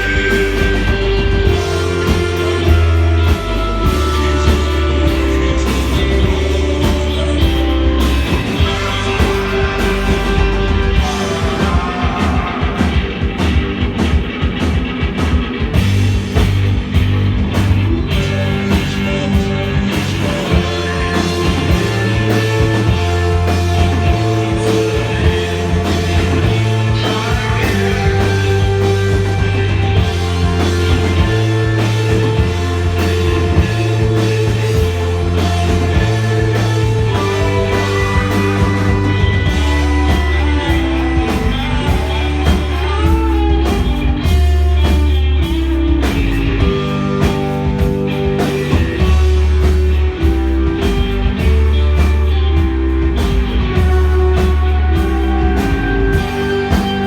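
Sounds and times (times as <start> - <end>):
heavy sustained bass line: 0.0 - 14.0, 15.8 - 57.0
rock band playing live: 0.0 - 57.0.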